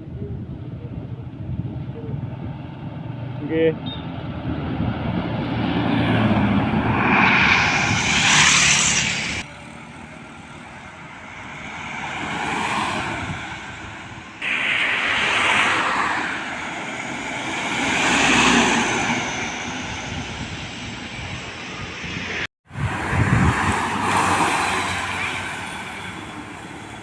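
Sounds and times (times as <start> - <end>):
large trucks passing: 0.9 - 27.0.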